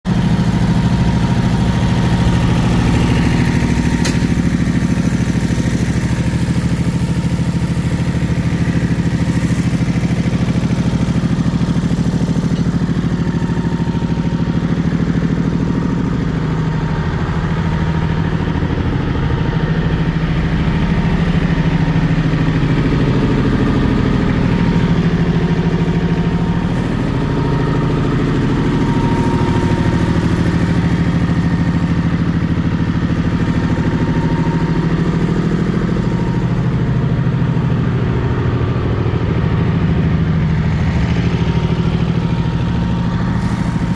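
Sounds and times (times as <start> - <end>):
tractor diesel engine idling: 0.0 - 43.9.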